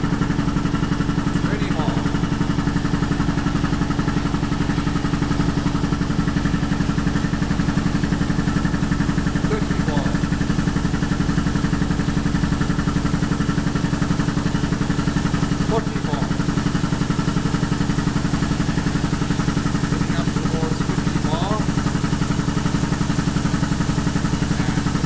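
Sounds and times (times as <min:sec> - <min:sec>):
air compressor chugging: 0:00.0 - 0:25.0.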